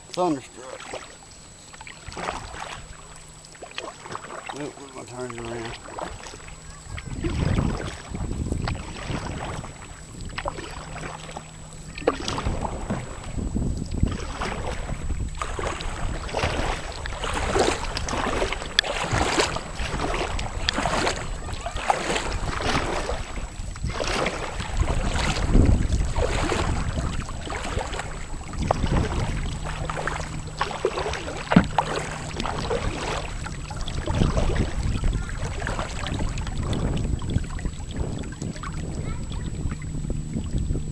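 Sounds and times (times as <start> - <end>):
kayak paddle splashing in water: 0.0 - 40.9
wind rumble on microphone: 1.2 - 40.9.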